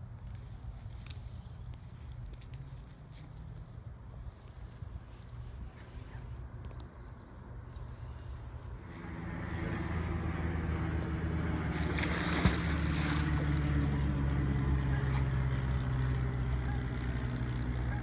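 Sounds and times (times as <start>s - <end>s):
engine low drone: 0.0s - 18.0s.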